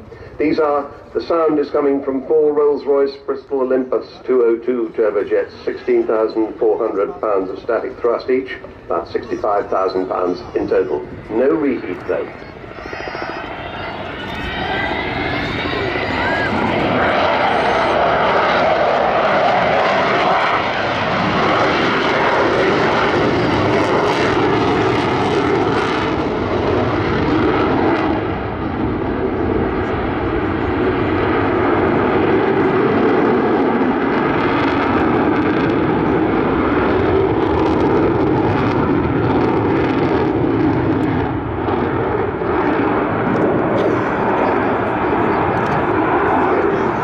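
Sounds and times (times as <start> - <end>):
loud steady jet engine noise: 0.0 - 47.0.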